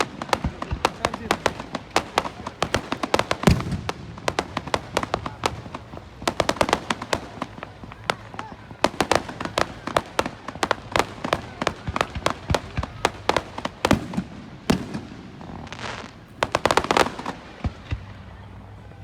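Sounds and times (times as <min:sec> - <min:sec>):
firework hiss: 0:00.0 - 0:17.9
fireworks bangs: 0:00.0 - 0:19.0.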